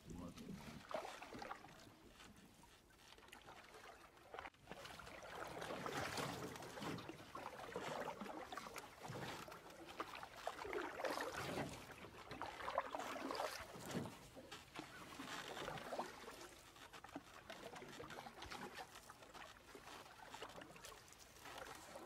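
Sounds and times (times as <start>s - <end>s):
paddle splashing through water: 0.0s - 22.0s.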